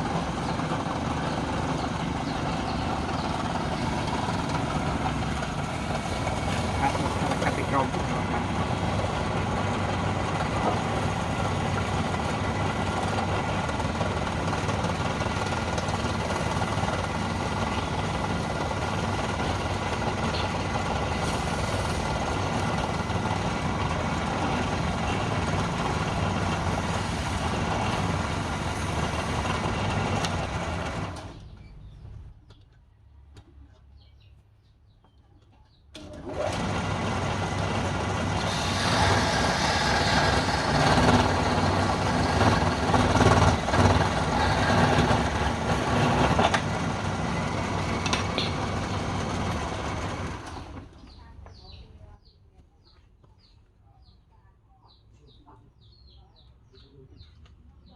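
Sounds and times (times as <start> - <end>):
machine humming: 0.0 - 32.4, 36.0 - 51.1.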